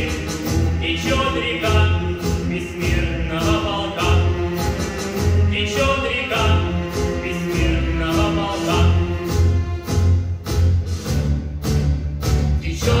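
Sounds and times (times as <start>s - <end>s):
bass beat backing track: 0.0s - 13.0s.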